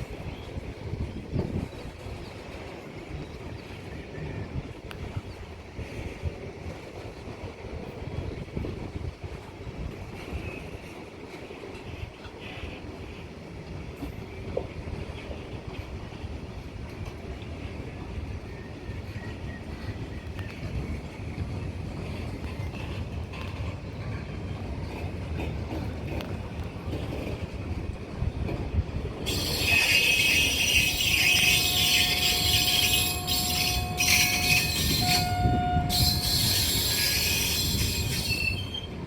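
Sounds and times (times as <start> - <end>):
train wheels squealing on rails: 0.0 - 7.3, 7.9 - 27.5, 28.4 - 39.0
train rumbling: 0.0 - 39.0.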